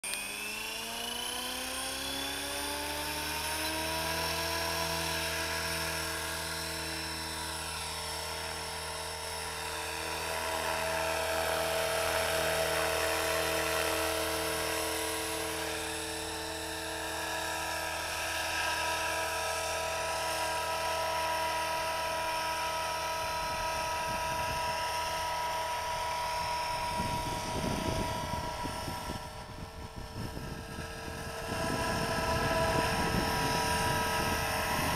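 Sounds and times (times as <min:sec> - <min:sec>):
model helicopter whine: 0:00.0 - 0:34.9.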